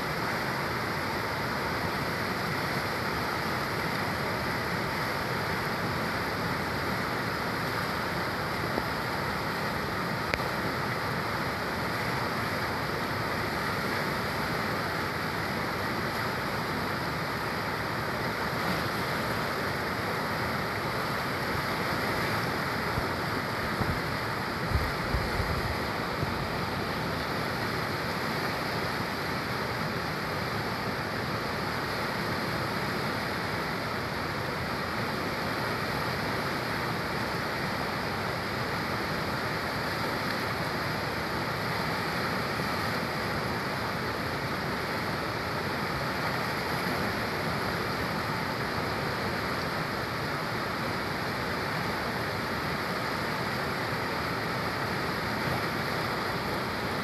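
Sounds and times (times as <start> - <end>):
river rushing over rapids: 0.0 - 57.0.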